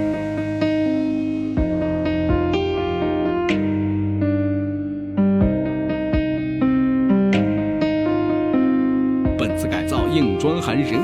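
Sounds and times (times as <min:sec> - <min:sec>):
guitar with bass and soft beat: 0:00.0 - 0:11.0.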